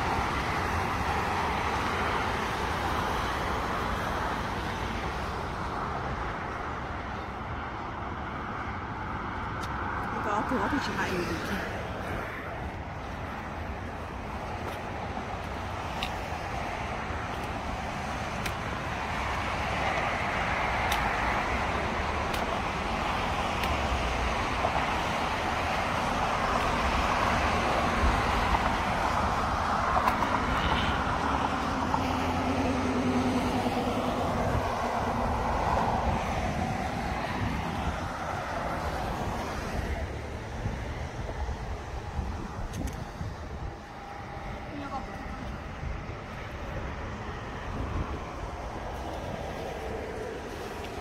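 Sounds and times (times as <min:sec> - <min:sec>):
road traffic noise: 0:00.0 - 0:51.0.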